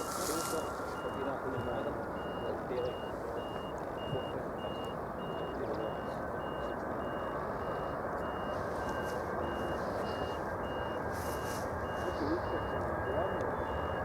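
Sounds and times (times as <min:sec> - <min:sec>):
high electronic beeps: 0:00.0 - 0:14.0.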